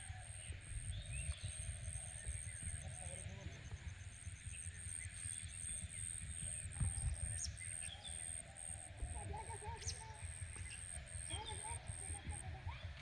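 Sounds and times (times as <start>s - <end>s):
insects calling in high pulses: 0.0s - 13.0s.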